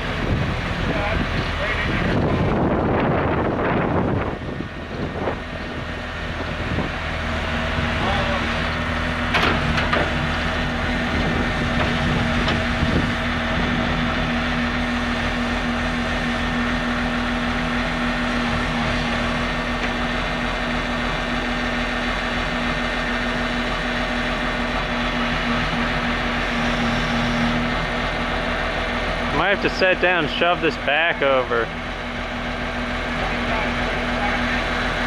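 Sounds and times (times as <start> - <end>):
engine humming steadily: 0.0 - 35.0.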